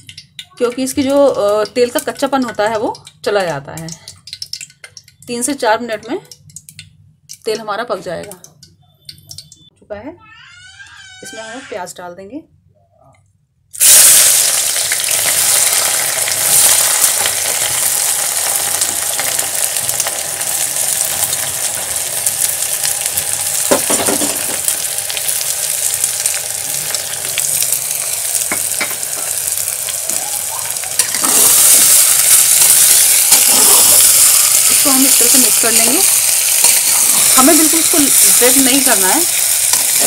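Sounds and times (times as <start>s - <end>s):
onions sizzling in hot oil: 0.0s - 8.4s, 13.8s - 40.0s.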